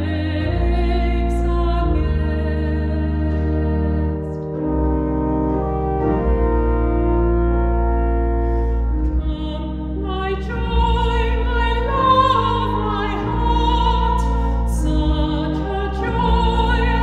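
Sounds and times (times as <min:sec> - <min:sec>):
pipe organ playing chords: 0:00.0 - 0:17.0.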